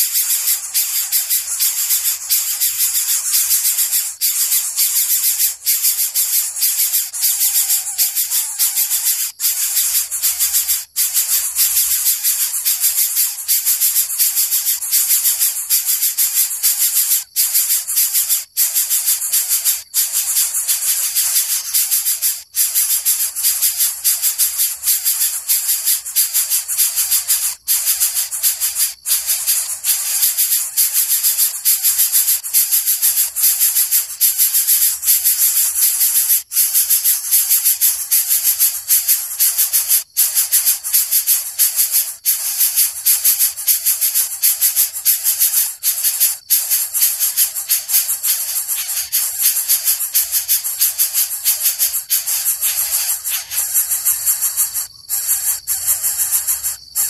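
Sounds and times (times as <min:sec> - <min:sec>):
bird raspy hissing rattle: 0:00.0 - 0:57.0.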